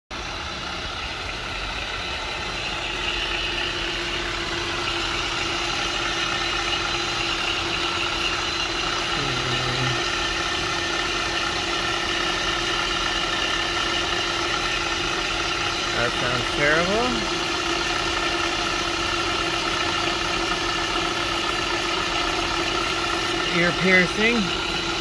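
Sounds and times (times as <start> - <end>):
car engine idling: 0.2 - 25.0.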